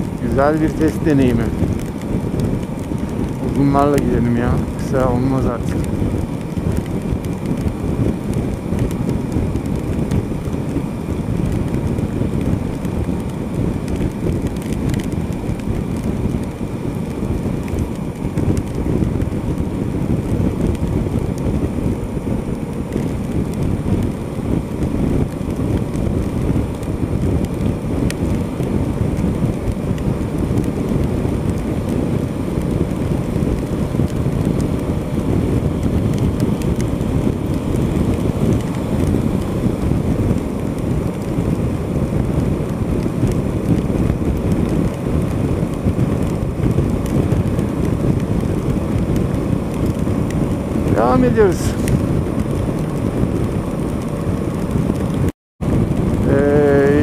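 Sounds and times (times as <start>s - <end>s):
heavy rain: 0.0s - 57.0s
wind rushing on microphone: 0.0s - 57.0s.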